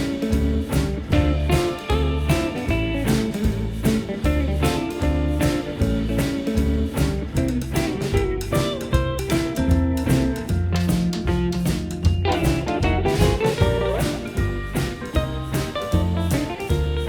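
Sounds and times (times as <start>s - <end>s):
guitar-led tune with beat: 0.0s - 17.0s.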